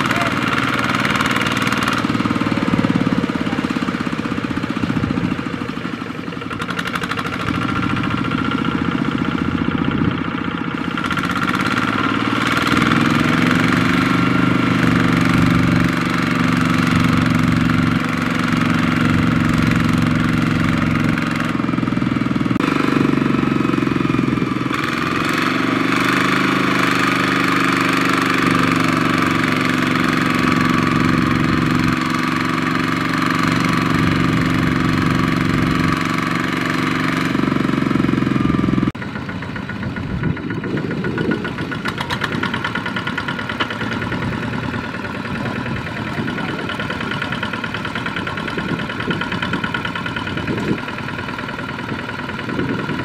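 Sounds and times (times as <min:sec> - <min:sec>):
diesel tractor engine under load: 0:00.0 - 0:53.0.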